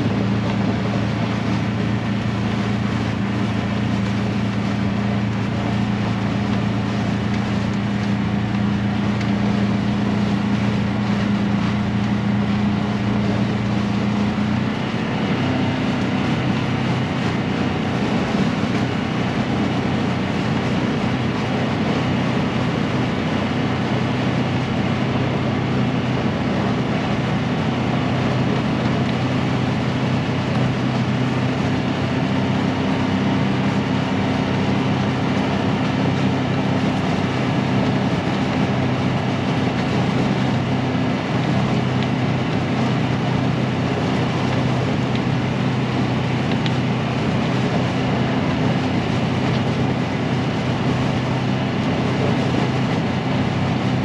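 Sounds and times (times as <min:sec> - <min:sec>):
engine low drone: 0:00.0 - 0:54.0.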